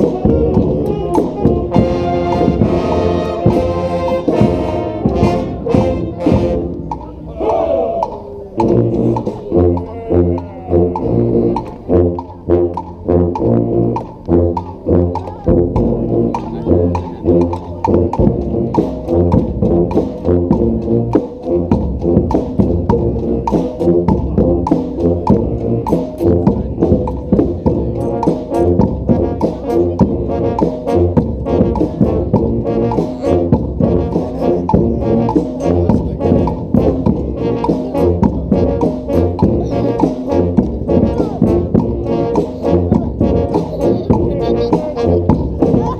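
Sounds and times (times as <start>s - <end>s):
brass street band playing: 0.0s - 45.9s.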